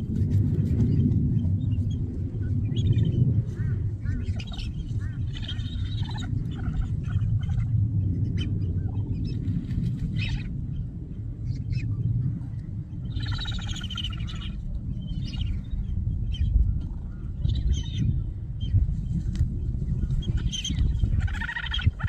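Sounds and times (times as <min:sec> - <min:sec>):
steady low rumble: 0:00.0 - 0:22.0
birds calling: 0:00.7 - 0:22.0.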